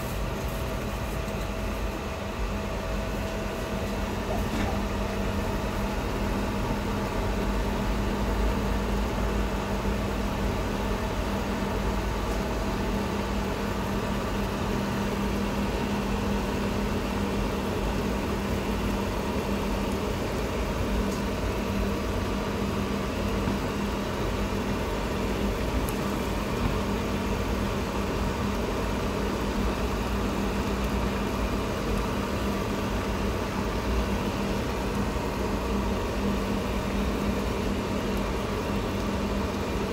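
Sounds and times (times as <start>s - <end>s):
induction cooker humming: 0.0s - 39.9s.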